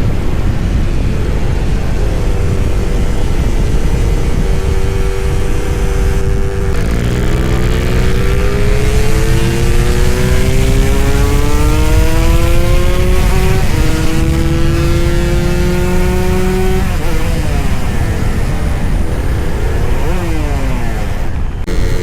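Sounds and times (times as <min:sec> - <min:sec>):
motorcycle engine accelerating: 0:00.0 - 0:22.0
wind rushing past microphone: 0:00.0 - 0:22.0.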